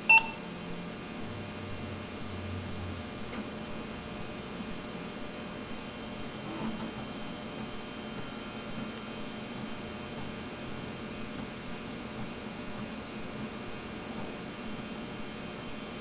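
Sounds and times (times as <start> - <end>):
electrical mains hum and buzz: 0.0 - 16.0.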